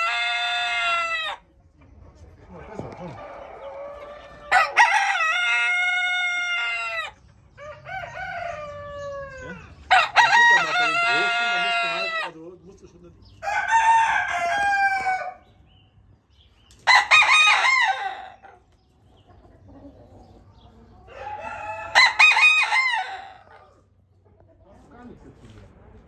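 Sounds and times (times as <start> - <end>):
roosters crowing: 0.0 - 1.6, 2.5 - 12.5, 13.2 - 15.8, 16.7 - 18.8, 19.4 - 24.0.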